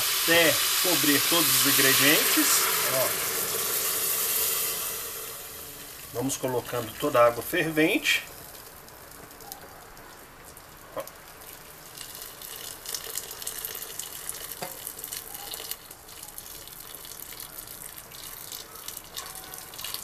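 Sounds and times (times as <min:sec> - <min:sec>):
water pouring into a pot: 0:00.0 - 0:09.4, 0:10.0 - 0:20.0.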